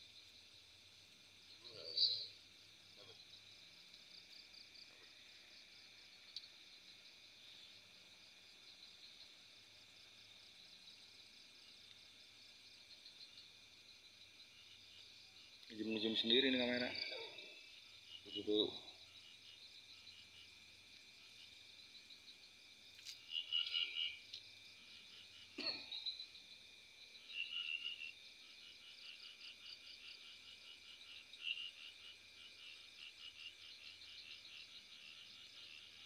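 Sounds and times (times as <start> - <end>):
insects trilling at night: 0.0 - 36.0.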